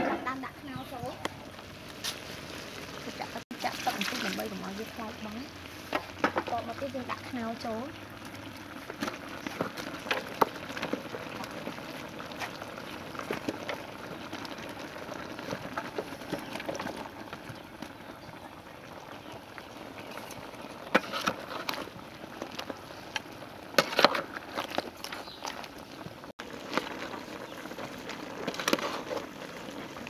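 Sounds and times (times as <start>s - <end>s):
pot bubbling: 0.0s - 30.0s.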